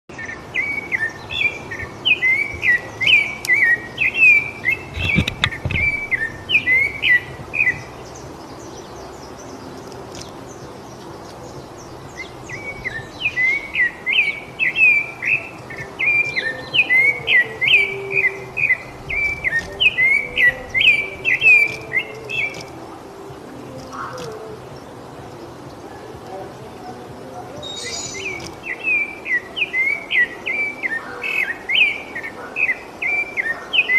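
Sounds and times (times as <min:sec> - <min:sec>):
thrush singing: 0:00.1 - 0:33.9.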